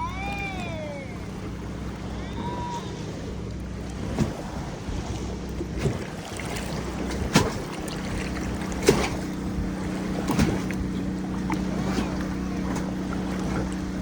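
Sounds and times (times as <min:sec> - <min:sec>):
low motor hum: 0:00.0 - 0:14.0
waves slapping under hull: 0:00.0 - 0:14.0.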